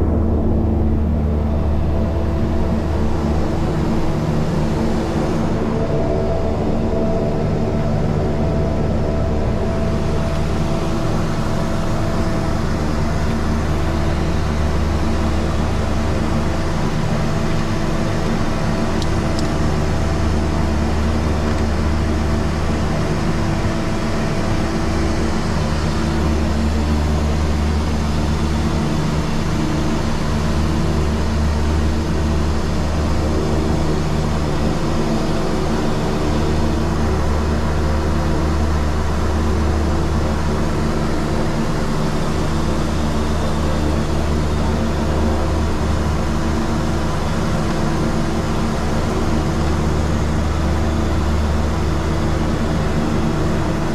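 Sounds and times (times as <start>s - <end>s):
turboprop engines humming: 0.0s - 53.9s.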